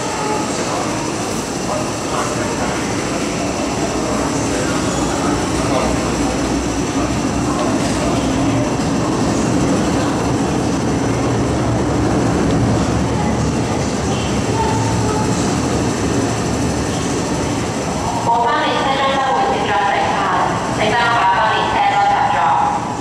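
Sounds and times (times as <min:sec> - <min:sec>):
train wheels and motors rumbling: 0:00.0 - 0:23.0.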